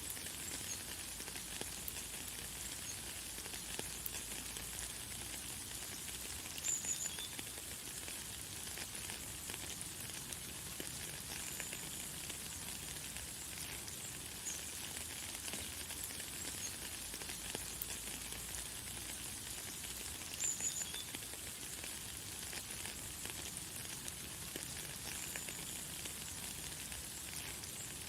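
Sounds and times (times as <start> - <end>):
light rain pattering: 0.0 - 28.0.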